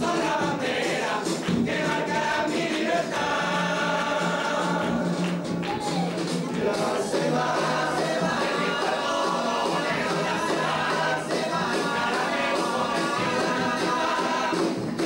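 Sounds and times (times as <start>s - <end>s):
men's chorus singing: 0.0s - 5.6s, 6.4s - 15.0s
musical accompaniment: 0.0s - 15.0s.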